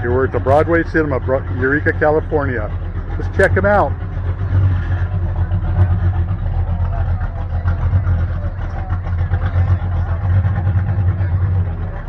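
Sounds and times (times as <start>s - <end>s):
car engine idling: 0.0s - 12.0s
faint voices: 0.0s - 12.0s.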